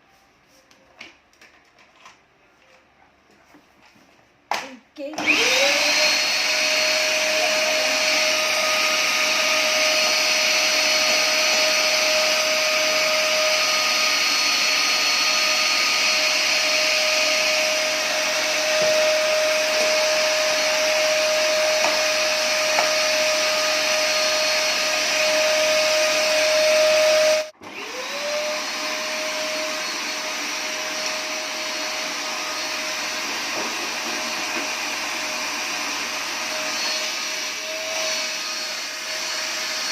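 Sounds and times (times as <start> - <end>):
vacuum cleaner motor whine: 5.1 - 39.9.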